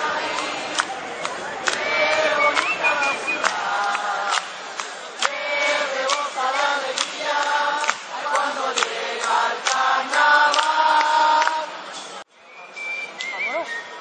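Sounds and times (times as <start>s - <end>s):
group singing together: 0.0s - 12.2s.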